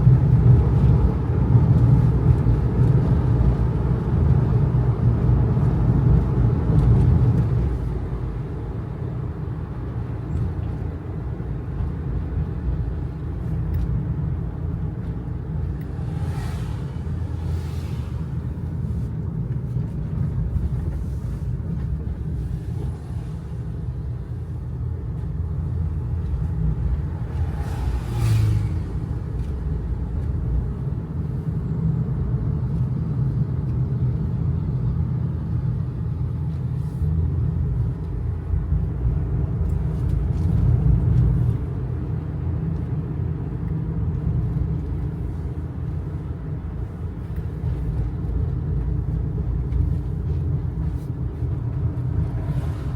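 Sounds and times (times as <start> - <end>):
road noise: 0.0 - 52.9
truck engine rumble: 0.0 - 52.9.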